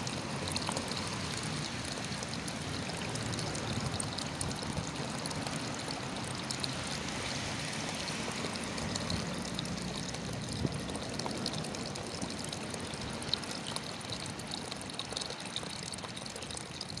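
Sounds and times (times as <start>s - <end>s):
running water trickling: 0.0s - 17.0s.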